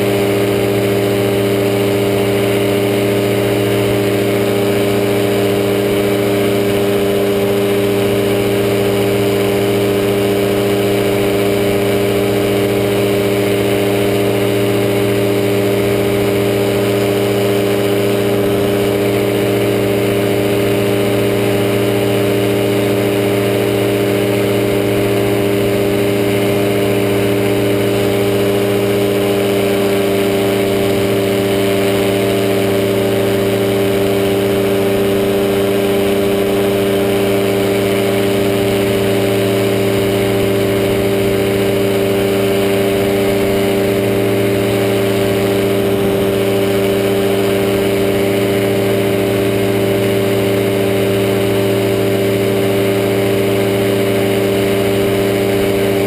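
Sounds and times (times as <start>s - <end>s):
propeller engine running steadily: 0.0s - 56.0s.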